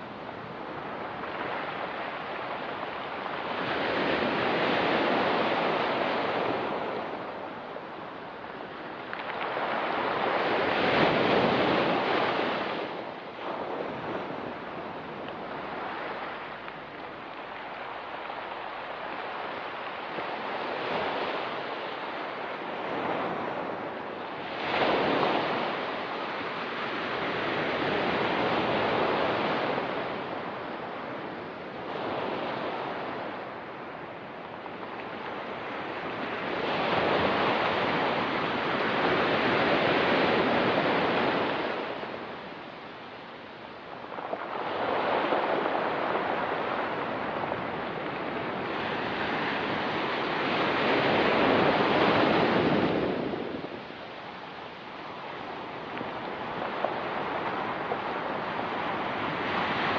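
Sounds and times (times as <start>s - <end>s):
ocean waves breaking on rocks: 0.0s - 59.9s.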